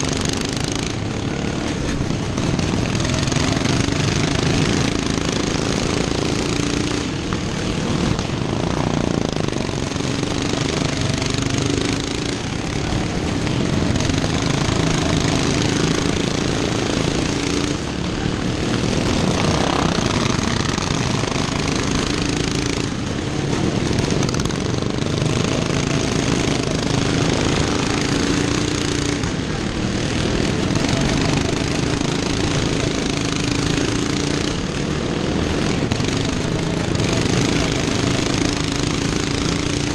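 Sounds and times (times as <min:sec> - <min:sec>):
racing lawn mower engines: 0:00.0 - 0:39.9.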